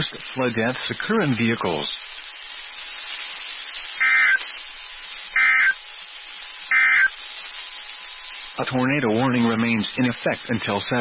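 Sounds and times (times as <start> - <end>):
buzzy warbling data bursts: 0.0 - 11.0
steady radio hiss: 0.0 - 11.0.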